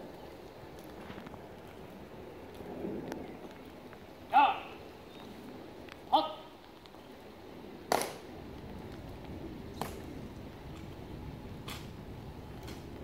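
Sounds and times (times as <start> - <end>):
outdoor hush: 0.0 - 13.0.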